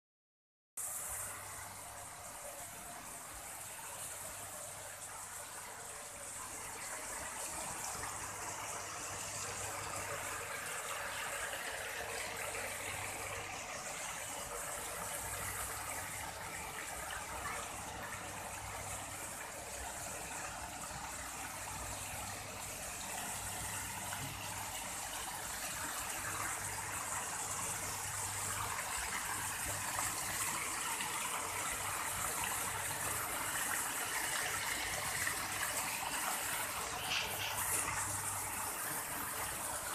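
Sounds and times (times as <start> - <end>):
fountain water splashing: 0.8 - 39.9.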